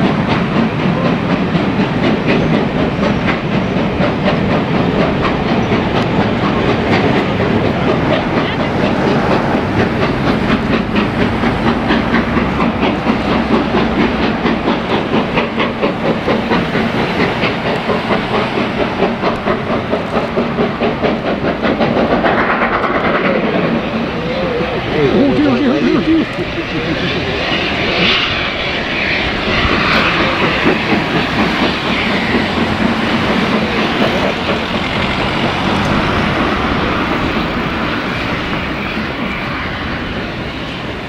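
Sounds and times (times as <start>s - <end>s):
steam locomotive exhausting steam: 0.0s - 41.0s
train wheels clacking on rail joints: 0.0s - 41.0s.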